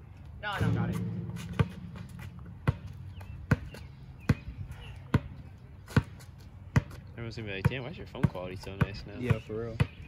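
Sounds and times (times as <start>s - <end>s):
basketball bouncing on asphalt: 0.6s - 10.0s.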